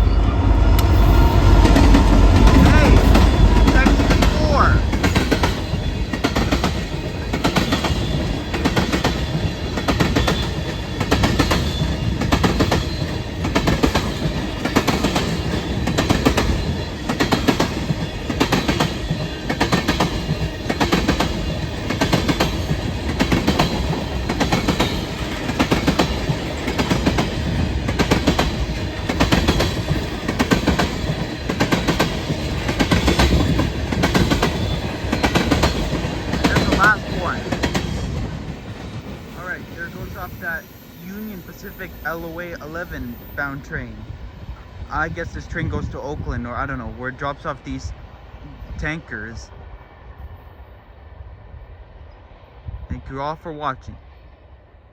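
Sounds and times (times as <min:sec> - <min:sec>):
freight train rolling past: 0:00.0 - 0:53.2.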